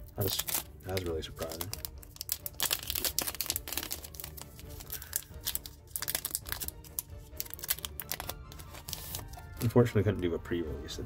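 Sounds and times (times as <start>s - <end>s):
foil wrapper crinkling and tearing: 0.0s - 9.7s.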